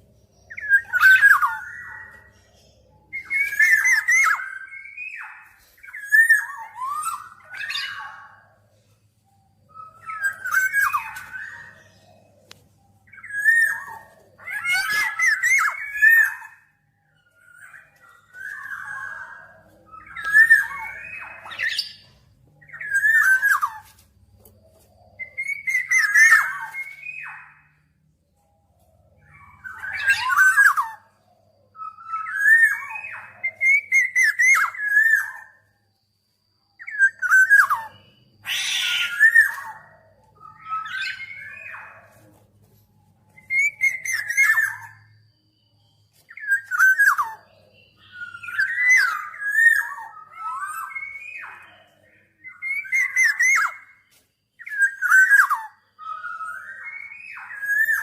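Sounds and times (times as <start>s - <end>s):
bird singing fluty phrases: 0.0s - 58.0s.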